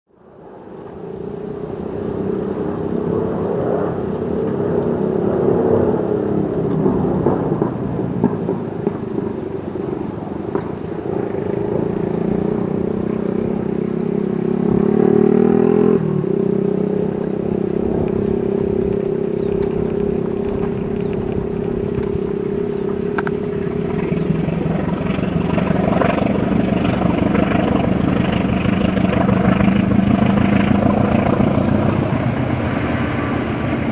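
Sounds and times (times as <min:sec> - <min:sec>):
diesel locomotive droning engine: 0:00.1 - 0:33.9.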